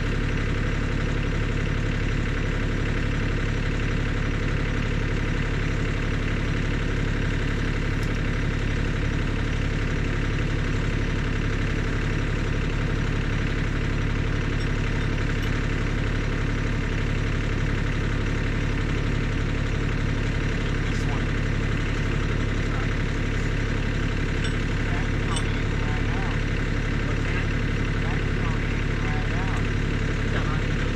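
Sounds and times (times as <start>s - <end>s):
tractor engine idling: 0.0s - 30.9s.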